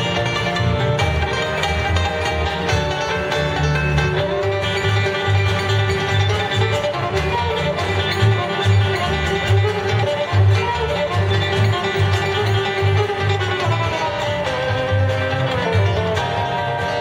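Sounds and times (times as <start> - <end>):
bluegrass band playing: 0.0 - 17.0.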